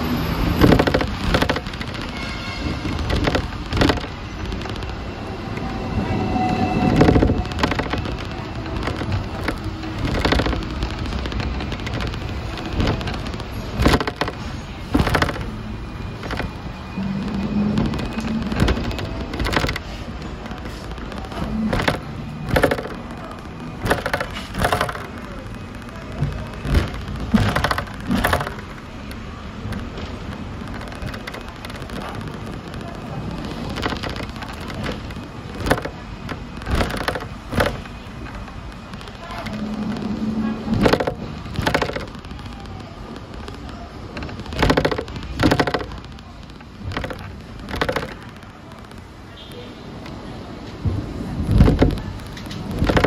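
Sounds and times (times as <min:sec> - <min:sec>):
tram rumbling on track: 0:00.0 - 0:53.0
tram windows rattling: 0:00.0 - 0:53.0.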